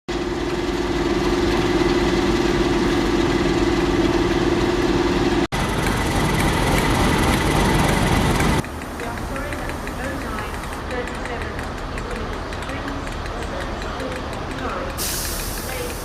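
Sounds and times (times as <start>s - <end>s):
diesel engine idling: 0.1s - 16.0s
noisier engine sound: 0.1s - 16.0s.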